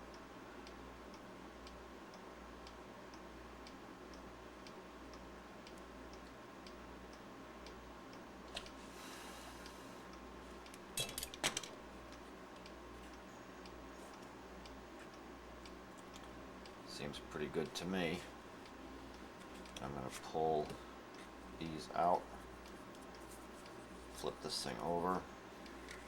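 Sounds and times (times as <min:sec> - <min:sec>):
clock ticking: 0:00.1 - 0:07.9, 0:12.1 - 0:26.0.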